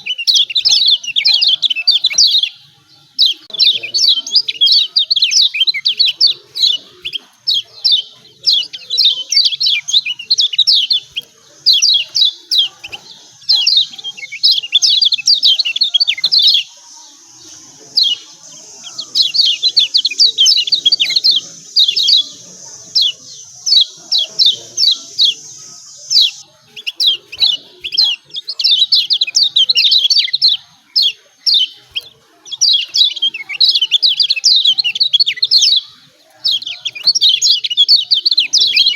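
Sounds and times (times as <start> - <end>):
bird fast chattering song: 0.0 - 38.9.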